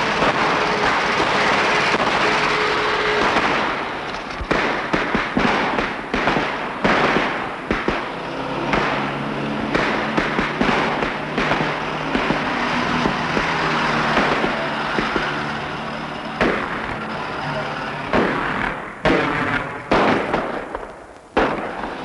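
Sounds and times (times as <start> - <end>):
old car engines running: 0.0 - 22.0.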